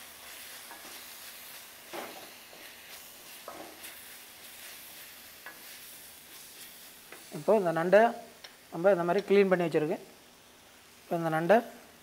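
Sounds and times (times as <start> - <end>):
masala sizzling faintly in a pan: 0.0 - 12.0.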